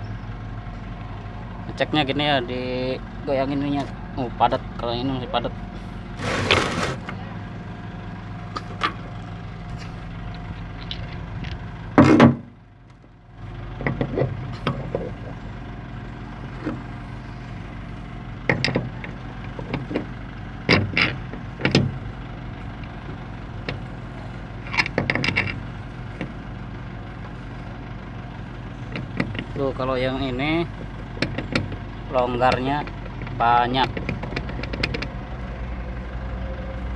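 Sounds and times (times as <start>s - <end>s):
steady machine hum: 0.0s - 12.1s, 13.4s - 36.9s.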